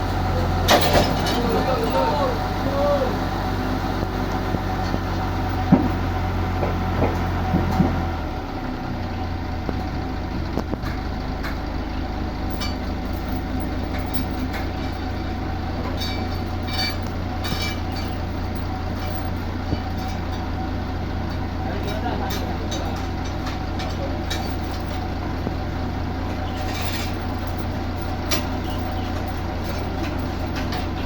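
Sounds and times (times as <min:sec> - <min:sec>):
heavy engine running: 0:00.0 - 0:31.0.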